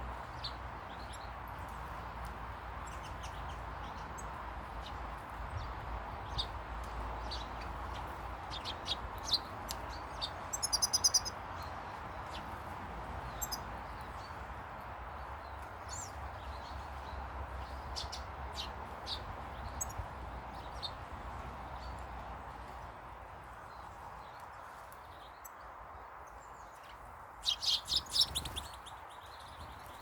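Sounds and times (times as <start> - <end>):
small birds chirping: 0.0 - 22.9, 23.5 - 30.0.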